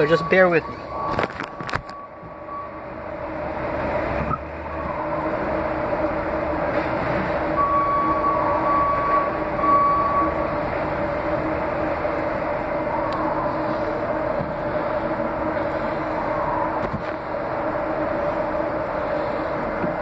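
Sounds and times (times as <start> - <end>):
mechanical drone with low hum: 0.0 - 20.0.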